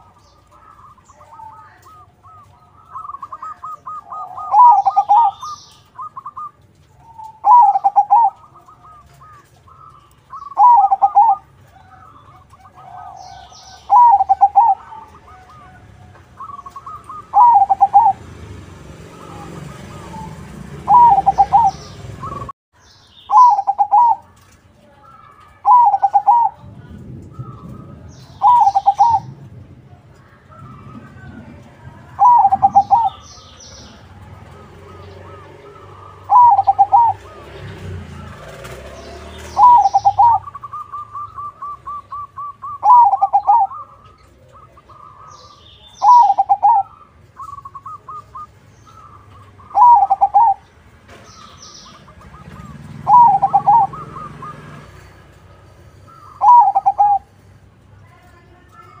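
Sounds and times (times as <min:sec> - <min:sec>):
dove cooing loudly: 0:00.0 - 0:18.2, 0:19.0 - 0:22.5, 0:23.3 - 0:24.3, 0:25.6 - 0:26.7, 0:27.4 - 0:29.3, 0:32.2 - 0:38.8, 0:39.4 - 0:50.7, 0:51.8 - 0:54.8, 0:56.1 - 0:57.3
faint bird chirping: 0:00.0 - 0:18.2, 0:19.1 - 0:26.6, 0:32.2 - 0:57.4.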